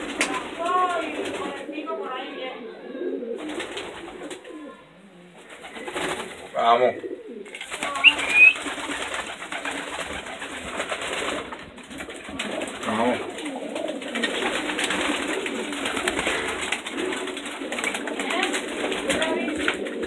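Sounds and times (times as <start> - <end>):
wings flapping: 0.0 - 1.8, 3.4 - 4.7, 5.4 - 6.6, 7.4 - 20.0
pigeons cooing: 0.0 - 20.0.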